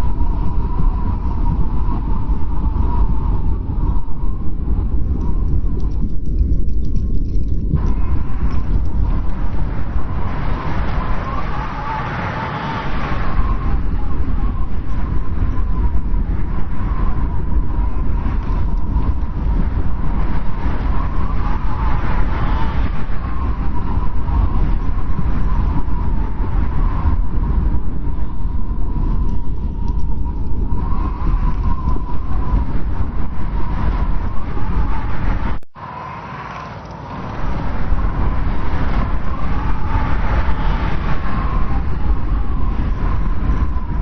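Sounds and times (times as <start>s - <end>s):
strong wind with deep rumble: 0.0s - 44.0s
thin wind whistle: 0.0s - 44.0s.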